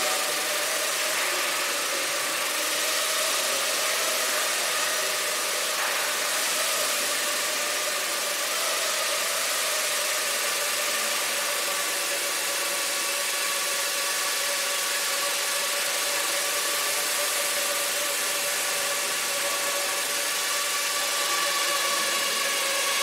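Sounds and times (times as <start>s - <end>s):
drone propellers whirring: 0.0s - 23.0s.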